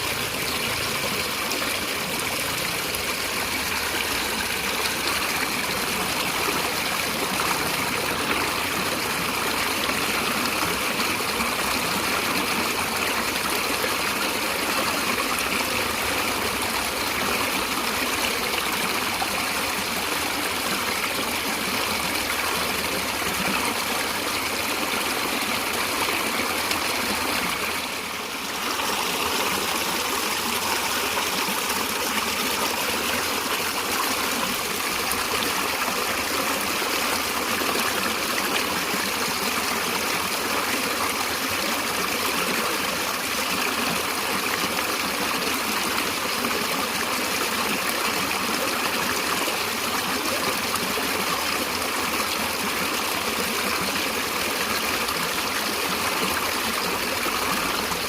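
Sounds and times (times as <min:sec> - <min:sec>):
stream of running water: 0:00.0 - 0:58.0.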